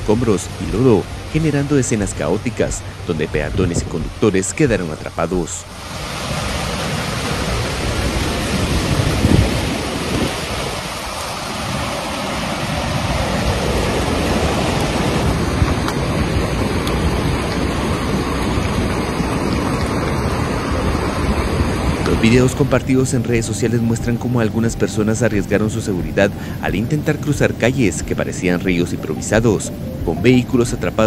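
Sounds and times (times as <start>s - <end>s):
floodwater rushing: 0.0s - 31.0s
heavy rain: 0.0s - 31.0s.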